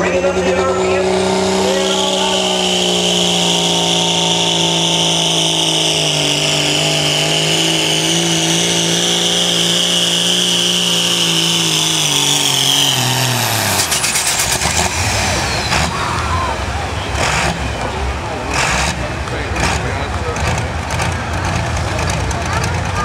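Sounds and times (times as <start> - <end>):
high turbo whine: 0.0 - 23.0
tractor diesel engine at full power: 0.0 - 23.0.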